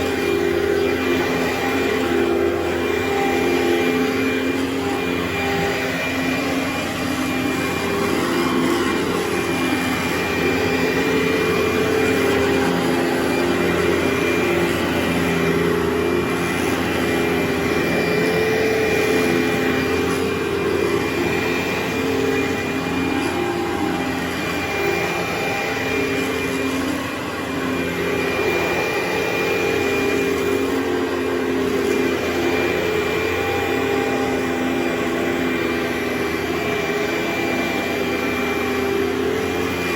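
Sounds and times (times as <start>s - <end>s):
carpet cleaning machine drone: 0.0s - 39.9s.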